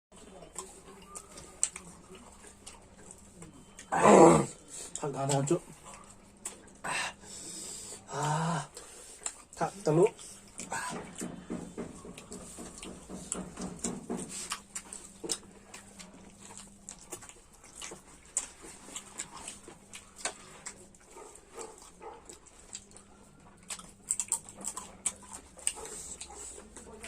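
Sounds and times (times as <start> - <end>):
chewing and lip smacking: 0.2 - 27.0.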